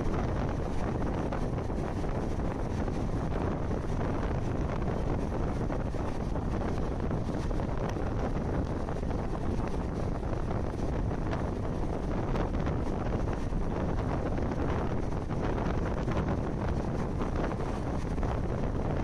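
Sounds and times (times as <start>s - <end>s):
train rumbling on track: 0.0s - 19.0s
wind buffeting microphone: 0.0s - 19.0s.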